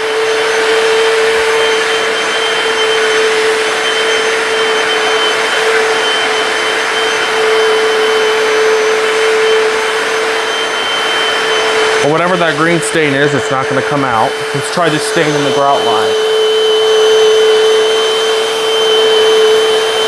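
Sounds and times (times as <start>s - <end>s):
floor cleaner suction and whine: 0.0s - 20.0s.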